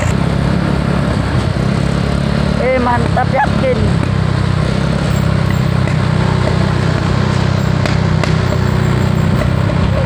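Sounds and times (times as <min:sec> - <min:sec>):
road and wind noise: 0:00.0 - 0:10.0
vehicle engine drone: 0:00.0 - 0:10.0.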